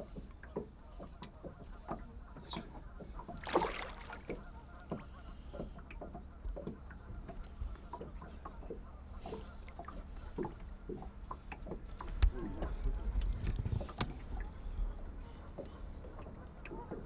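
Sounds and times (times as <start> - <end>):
waves lapping against hull: 0.0 - 17.0.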